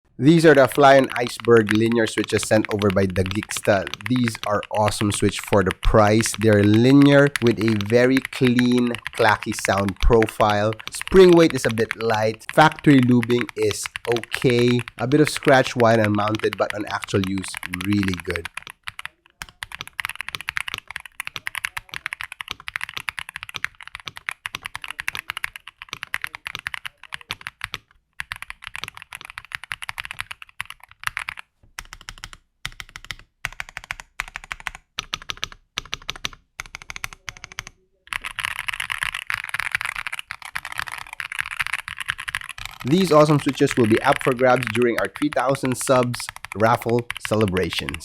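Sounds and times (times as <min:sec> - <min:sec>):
mechanical keyboard typing: 0:00.3 - 0:48.0.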